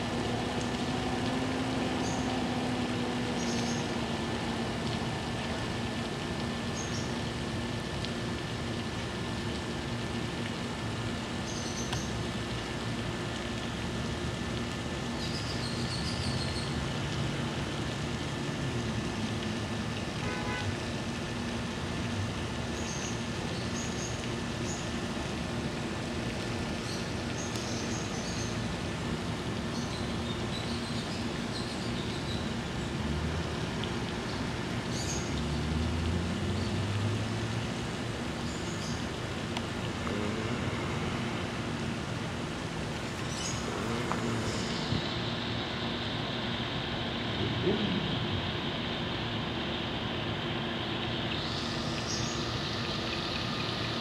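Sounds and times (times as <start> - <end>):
faint steady hum: 0.0 - 54.0
outdoor rumble and hiss: 0.0 - 54.0.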